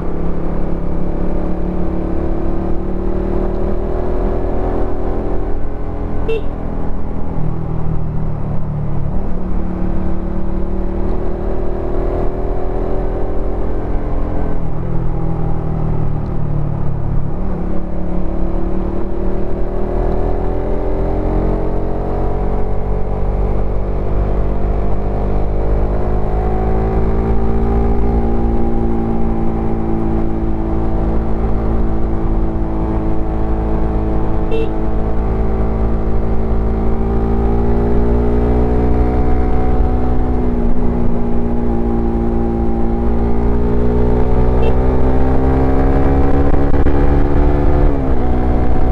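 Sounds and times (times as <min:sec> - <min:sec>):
motorcycle engine and exhaust: 0:00.0 - 0:48.9.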